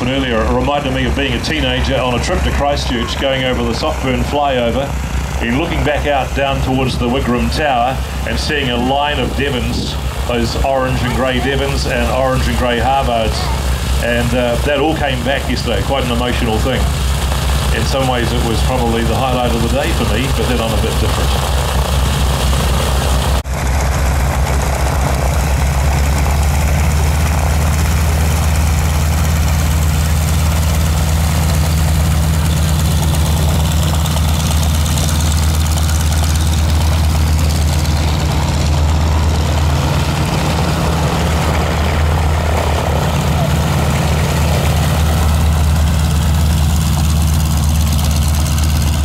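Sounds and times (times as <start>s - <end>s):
propeller aircraft engine droning: 0.0s - 49.0s.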